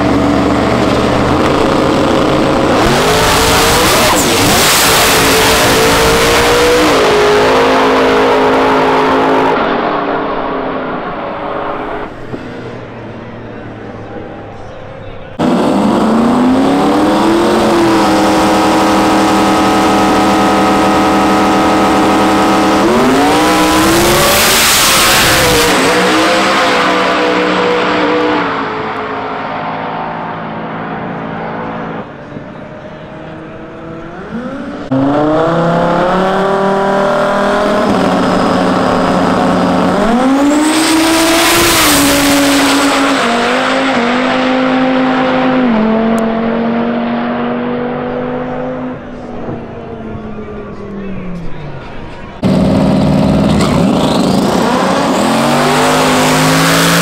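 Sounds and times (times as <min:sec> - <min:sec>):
drag race car engine revving: 0:00.0 - 0:57.0.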